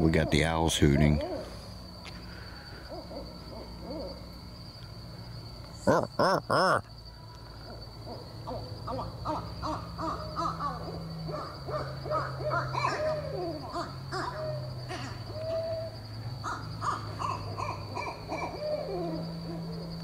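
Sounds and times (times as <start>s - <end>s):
owls hooting: 0.0s - 1.7s, 2.3s - 4.6s, 5.8s - 6.9s, 7.6s - 20.0s.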